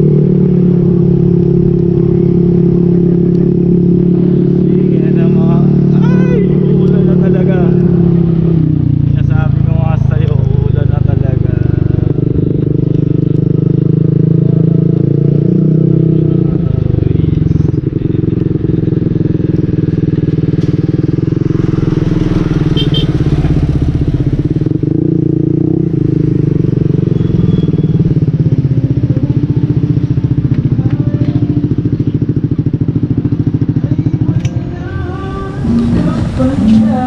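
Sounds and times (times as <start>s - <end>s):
motorcycle exhaust pulsing: 0.0s - 37.0s.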